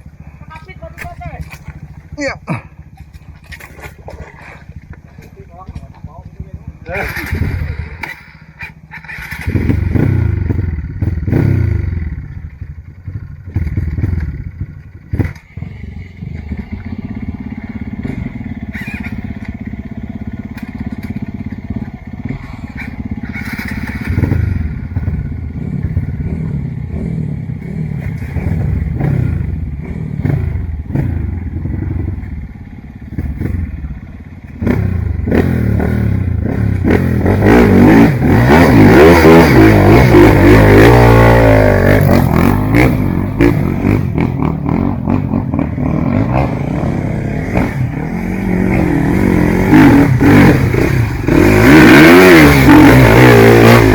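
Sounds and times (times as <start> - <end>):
dirt bike engine revving: 5.8 - 53.9.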